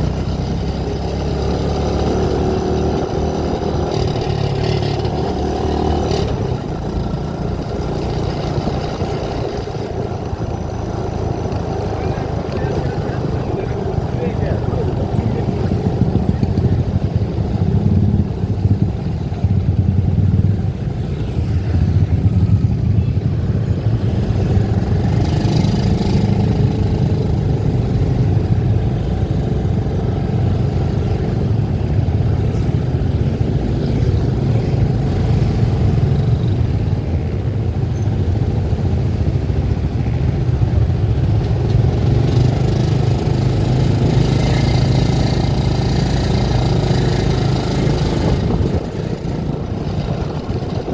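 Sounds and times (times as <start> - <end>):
vehicle engine and road noise: 0.0 - 50.9.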